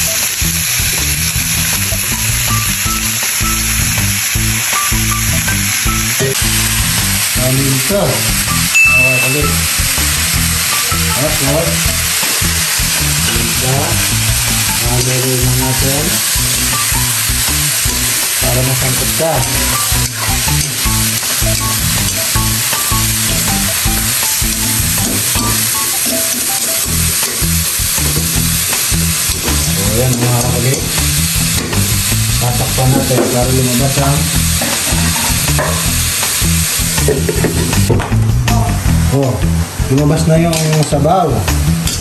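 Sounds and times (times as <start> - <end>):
chicken sizzling in oil: 0.0 - 42.0.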